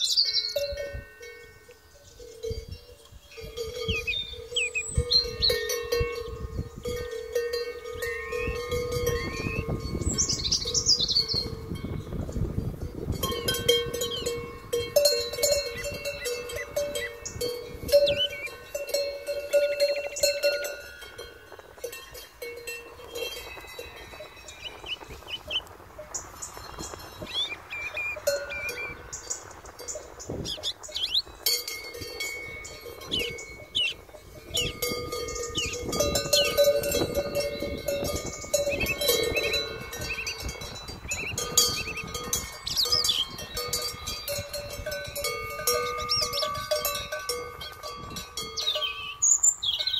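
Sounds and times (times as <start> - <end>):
cowbells clanking and ringing: 0.0 - 49.9.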